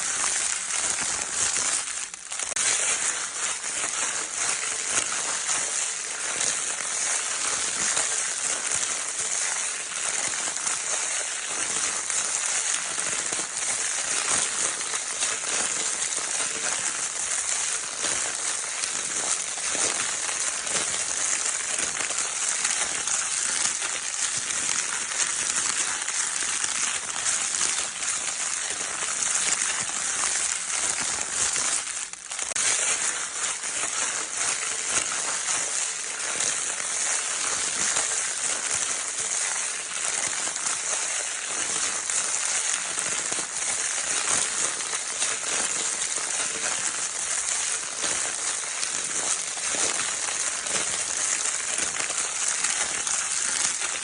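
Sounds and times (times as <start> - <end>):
crinkle paper toy crackling: 0.0 - 54.0.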